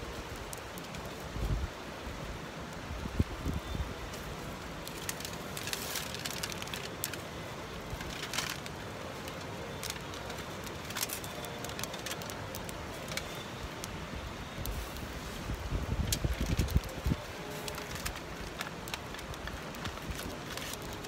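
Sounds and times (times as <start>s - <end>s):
campfire crackling and popping: 0.0s - 2.0s, 4.1s - 21.0s
low fire hiss: 0.0s - 21.0s.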